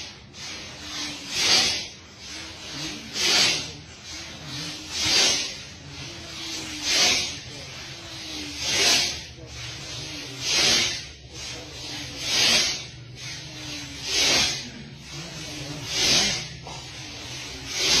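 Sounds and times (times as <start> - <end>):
low hum of voices: 0.0 - 18.0.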